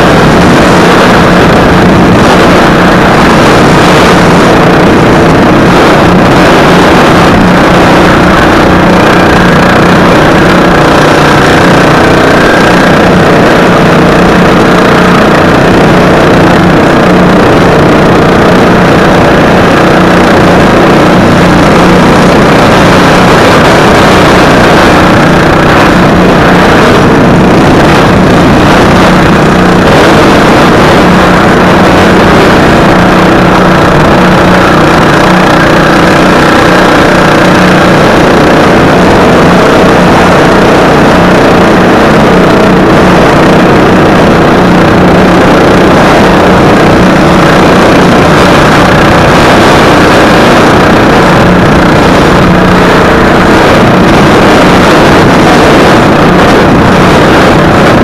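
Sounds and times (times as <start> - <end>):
lawn mower engine at high revs: 0.0 - 58.0.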